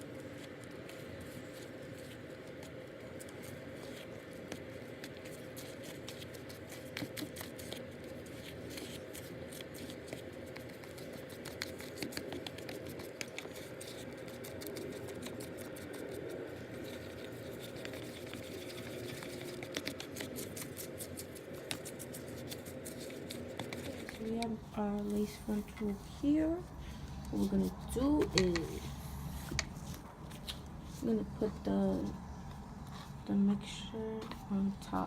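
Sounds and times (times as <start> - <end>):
stirring tool scraping a bowl: 5.0 - 35.0.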